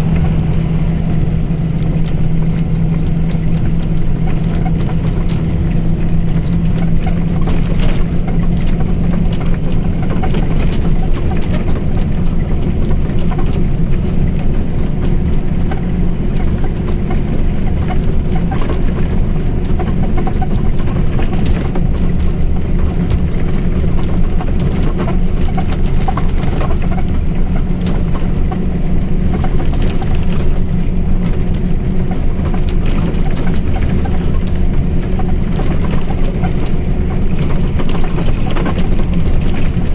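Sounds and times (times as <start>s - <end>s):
bus diesel engine droning: 0.0s - 39.9s
light rattles and clicks: 0.0s - 39.9s.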